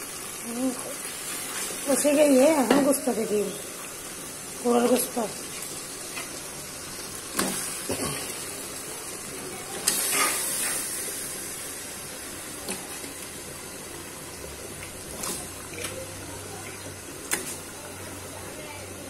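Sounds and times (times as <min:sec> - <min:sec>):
paste sizzling in a pot: 0:00.0 - 0:19.0.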